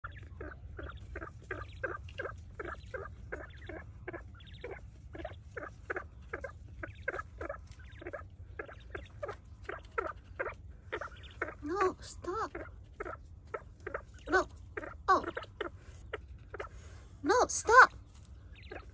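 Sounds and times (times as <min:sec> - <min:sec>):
low background rumble: 0:00.0 - 0:18.9
quail chirping: 0:00.0 - 0:18.9.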